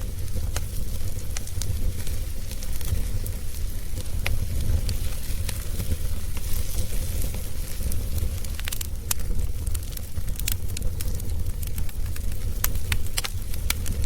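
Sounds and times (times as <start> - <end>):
fire crackling: 0.0 - 14.0
fire low rumble: 0.0 - 14.0.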